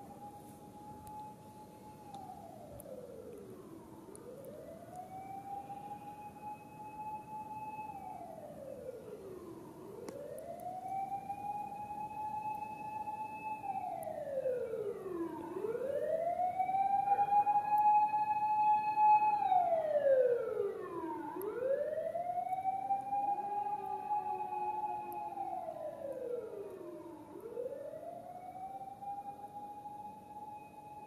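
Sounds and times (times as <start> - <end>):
siren wailing: 0.0 - 31.0.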